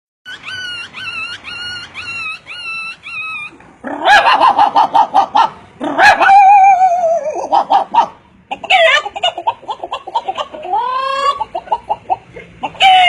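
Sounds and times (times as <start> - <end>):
dog whimpering cries: 0.3 - 13.0
dog yipping: 0.3 - 13.0.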